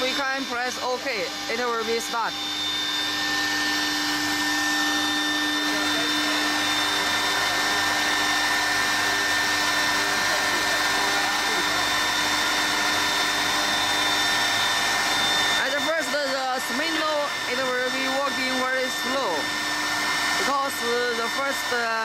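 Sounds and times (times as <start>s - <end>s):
lathe motor whirring with high whine: 0.0s - 22.0s.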